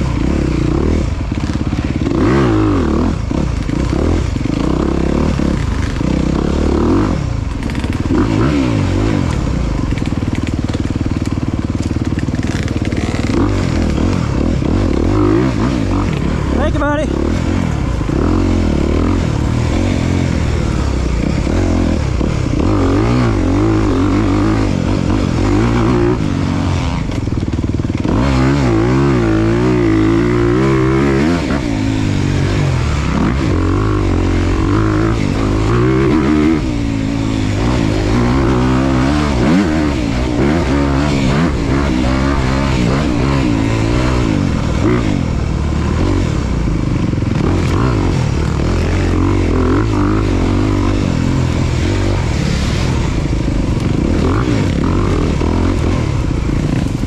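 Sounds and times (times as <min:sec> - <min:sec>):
off-road motorcycle engine revving: 0:00.0 - 0:57.0.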